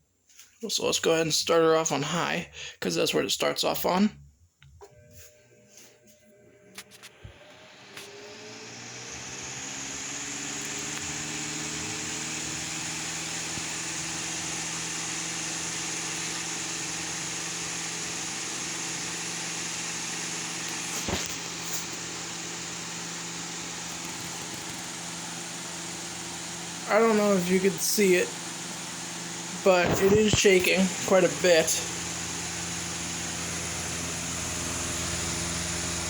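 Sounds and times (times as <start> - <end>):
fan motor hum: 4.8 - 36.0.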